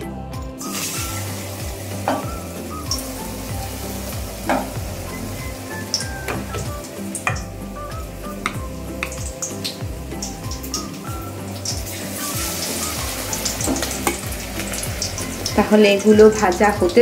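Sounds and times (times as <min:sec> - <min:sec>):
fish sizzling in hot oil: 0:00.6 - 0:17.0.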